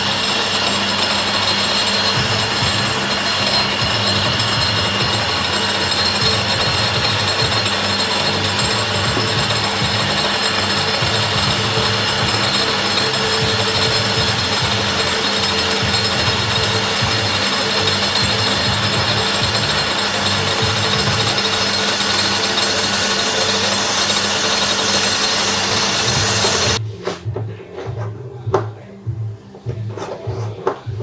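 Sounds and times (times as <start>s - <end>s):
belt sander running: 0.0s - 26.8s.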